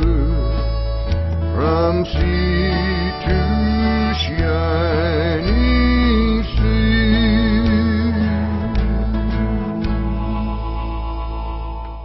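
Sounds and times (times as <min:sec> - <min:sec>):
bass notes: 0:00.0 - 0:12.0
guitar: 0:00.0 - 0:12.0
wavering held melody note: 0:00.0 - 0:12.0.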